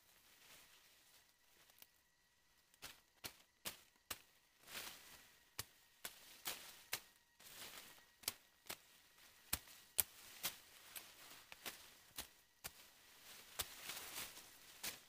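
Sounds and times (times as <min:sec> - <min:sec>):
leaves rustling: 0:00.0 - 0:02.0, 0:02.7 - 0:15.0.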